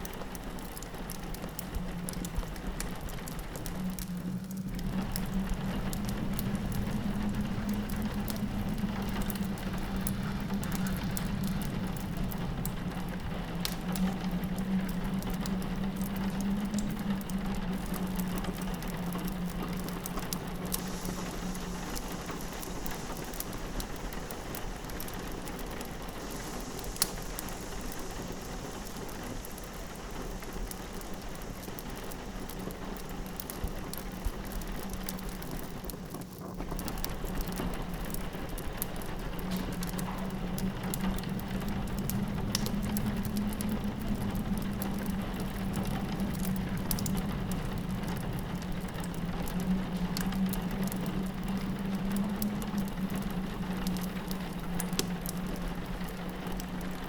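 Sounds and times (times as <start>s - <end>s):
fireplace crackling and popping: 0.0s - 57.0s
low wind howl: 0.0s - 57.0s
rain pattering on a window: 0.0s - 57.0s.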